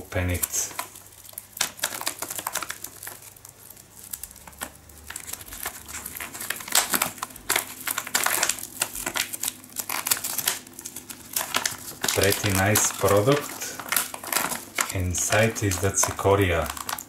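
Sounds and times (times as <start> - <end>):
foil pouch crinkling: 0.0 - 17.0.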